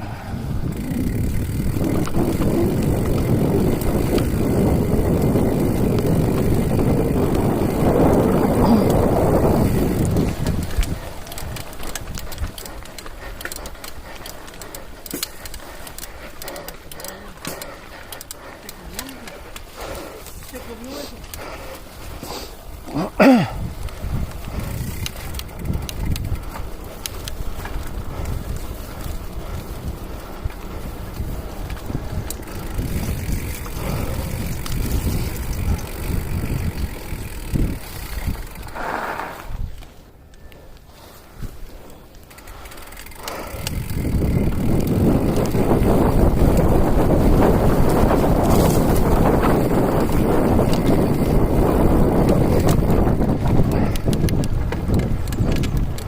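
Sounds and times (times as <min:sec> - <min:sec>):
wind buffeting microphone: 0:00.0 - 0:56.0
light clicks and ticks: 0:00.7 - 0:22.2, 0:23.7 - 0:38.8, 0:39.6 - 0:56.0.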